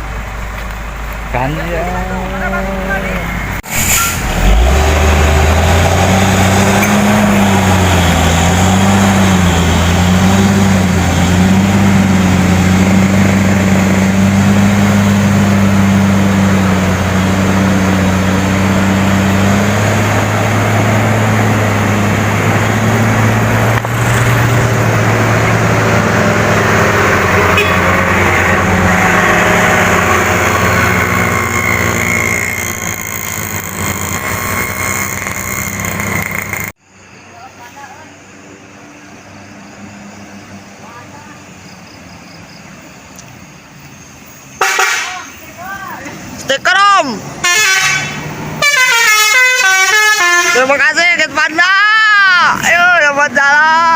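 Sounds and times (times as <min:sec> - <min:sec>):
diesel bus engine humming: 0:00.0 - 0:53.9.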